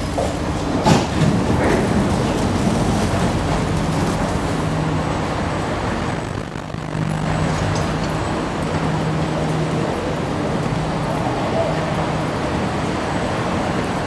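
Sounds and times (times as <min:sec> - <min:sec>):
low machine drone: 0:00.0 - 0:14.0.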